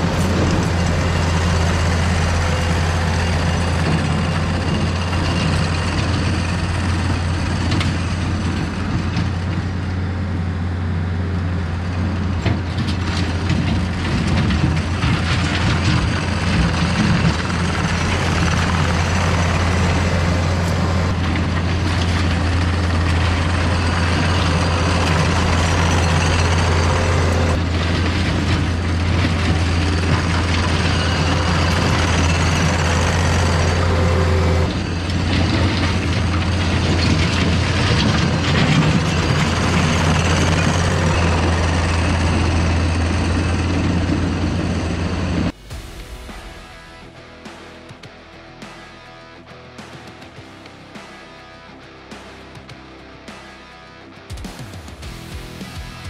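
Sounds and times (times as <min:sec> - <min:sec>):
clanks and rattles of tracks: 0:00.0 - 0:45.6
diesel engine droning: 0:00.0 - 0:47.6.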